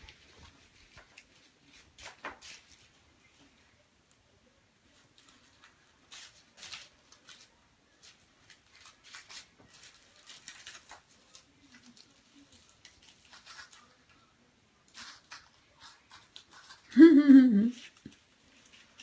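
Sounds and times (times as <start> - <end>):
kittens' paws scratching and pattering: 0.0 - 3.8, 4.8 - 16.9, 17.8 - 19.0.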